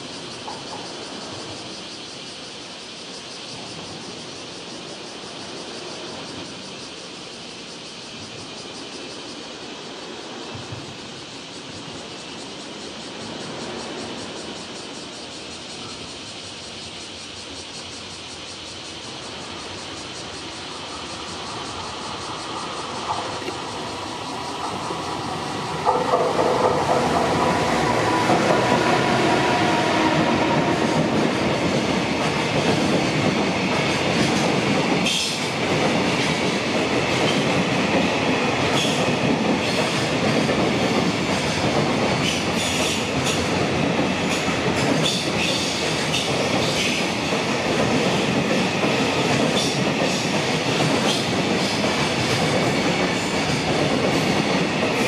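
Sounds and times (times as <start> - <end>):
electric locomotive whining: 0.0 - 55.0.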